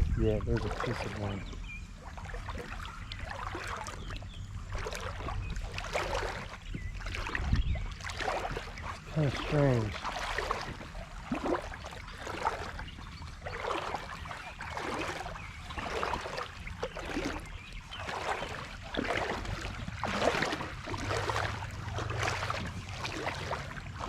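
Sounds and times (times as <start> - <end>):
boots wading through water: 0.0 - 24.0.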